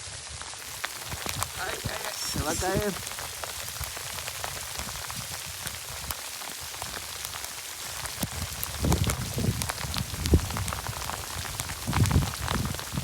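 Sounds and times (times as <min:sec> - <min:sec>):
hail and rain falling hard: 0:00.0 - 0:13.0
hailstones ticking: 0:00.3 - 0:13.0.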